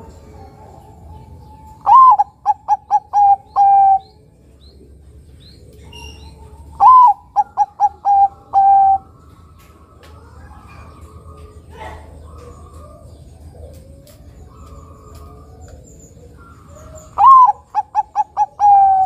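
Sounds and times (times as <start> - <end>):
dove cooing: 0.0 - 19.0
faint bird chirps: 0.0 - 19.0.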